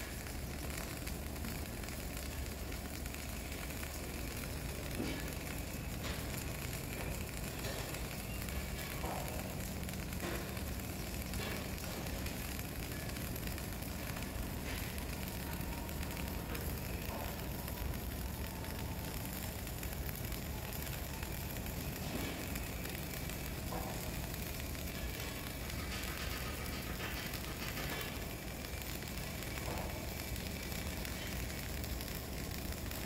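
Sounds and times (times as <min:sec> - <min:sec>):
steady low hum: 0:00.0 - 0:33.0
welding arc crackling and sizzling: 0:00.0 - 0:33.0.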